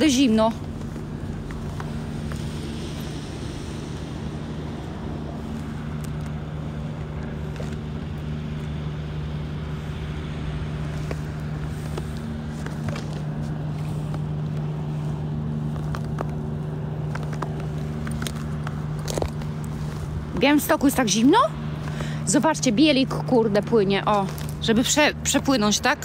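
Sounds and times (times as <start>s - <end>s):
ferry diesel engines droning: 0.0s - 26.0s.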